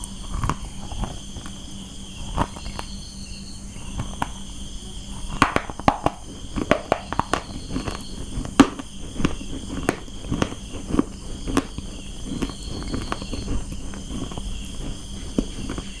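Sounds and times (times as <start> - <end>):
crickets chirring: 0.0 - 16.0
crunchy chewing of dry clay: 0.0 - 16.0.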